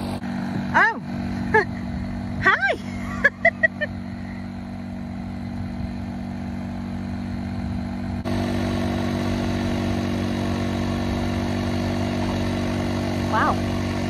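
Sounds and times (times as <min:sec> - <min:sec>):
motor droning hum: 0:00.0 - 0:14.0.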